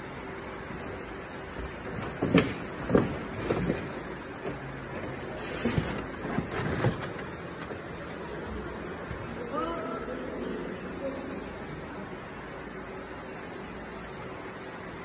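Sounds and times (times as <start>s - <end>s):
hall background hum: 0.0s - 15.0s.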